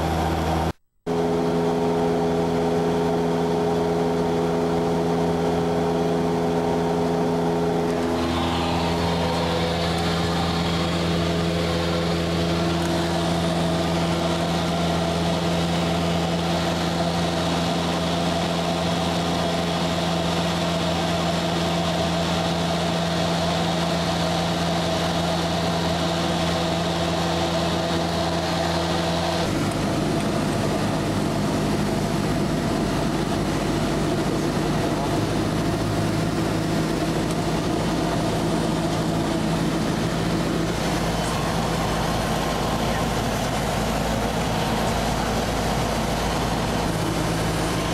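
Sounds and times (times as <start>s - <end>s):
airplane engine and propeller drone: 0.0s - 47.9s.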